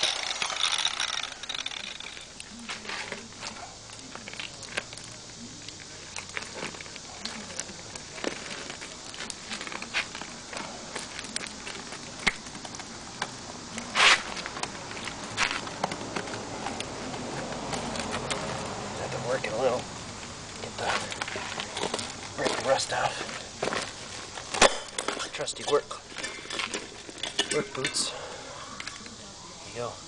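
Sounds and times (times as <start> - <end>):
tire clicking on steel rim: 0.0 - 28.0.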